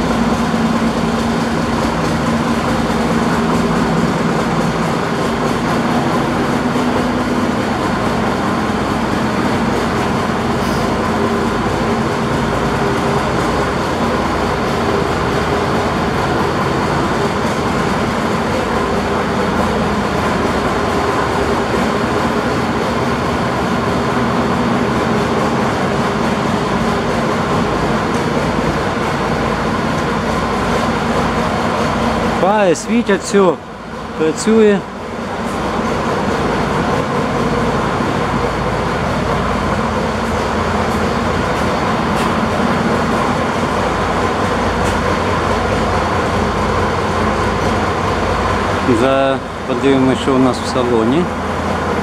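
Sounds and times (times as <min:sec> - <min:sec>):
diesel coach engine idling: 0:00.0 - 0:52.0.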